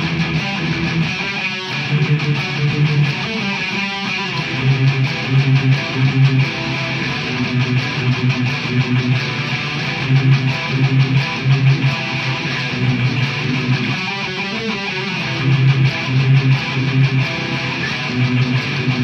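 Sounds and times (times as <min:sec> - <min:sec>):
electric guitars playing riff: 0:00.0 - 0:19.0.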